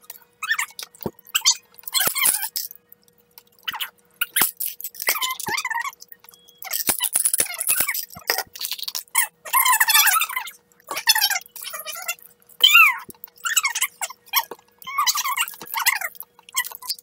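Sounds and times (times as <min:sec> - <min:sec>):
children chewing wetly: 0:00.0 - 0:06.8, 0:07.7 - 0:17.0.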